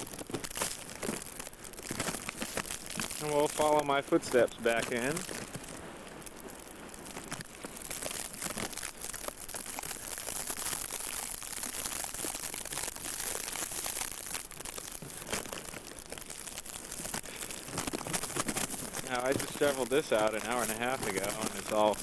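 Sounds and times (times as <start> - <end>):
footsteps crunching in snow: 0.0 - 22.0.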